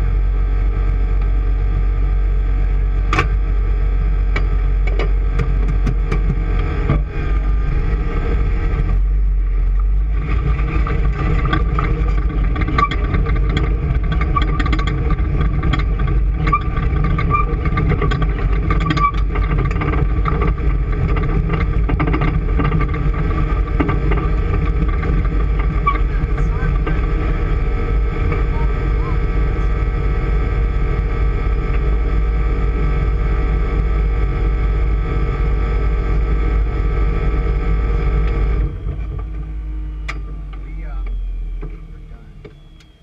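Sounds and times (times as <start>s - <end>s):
motorboat engine rumbling: 0.0s - 43.0s.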